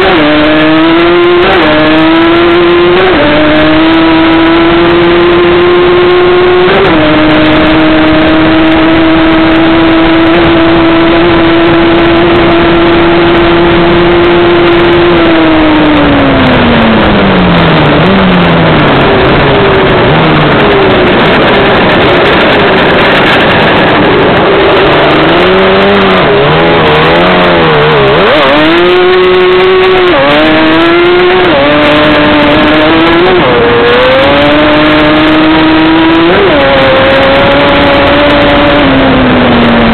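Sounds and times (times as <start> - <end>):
quad bike engine at full speed: 0.0 - 39.9.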